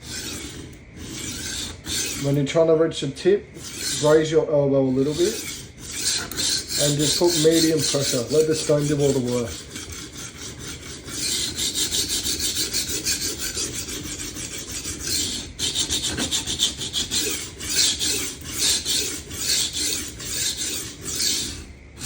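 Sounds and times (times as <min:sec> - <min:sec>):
knife rasping on sharpening plate: 0:00.0 - 0:02.4, 0:03.6 - 0:04.3, 0:04.9 - 0:21.7.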